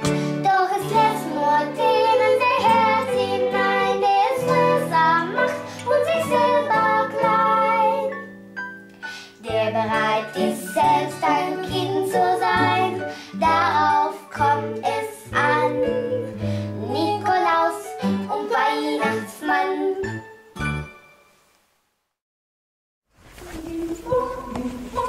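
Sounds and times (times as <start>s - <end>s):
children singing: 0.0s - 8.2s, 9.4s - 20.2s, 23.5s - 25.0s.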